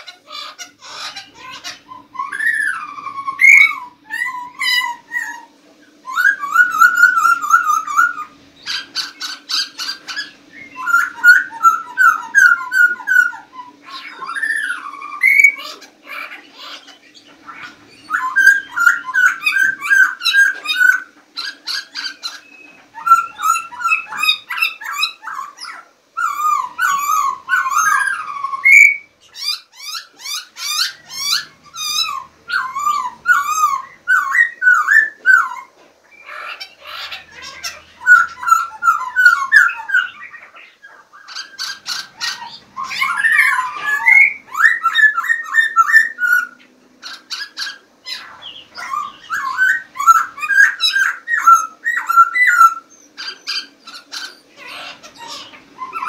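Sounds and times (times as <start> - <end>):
songbirds warbling: 0.0 - 56.0.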